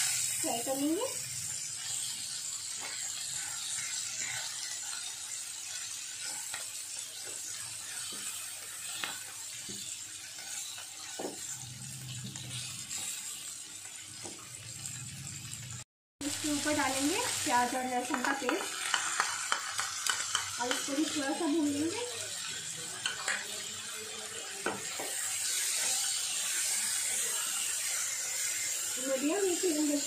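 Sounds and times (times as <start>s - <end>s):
chicken sizzling in a frying pan: 0.0s - 30.0s.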